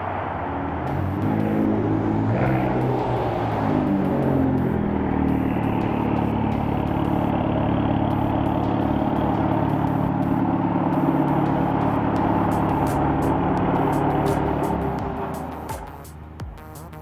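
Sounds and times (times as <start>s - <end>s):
car exhaust droning: 0.0s - 17.0s.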